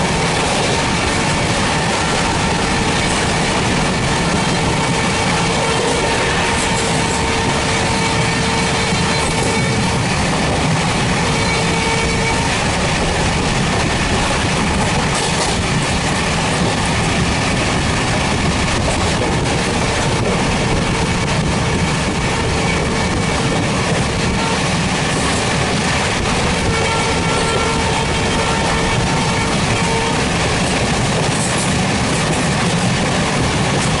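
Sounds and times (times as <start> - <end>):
train wheels clacking on track: 0.0 - 34.0.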